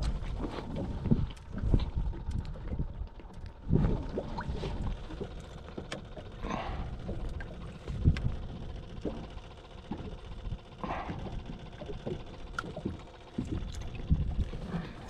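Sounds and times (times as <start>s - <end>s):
knocks and thumps on a boat: 0.0s - 15.0s
water lapping at the hull: 0.0s - 15.0s.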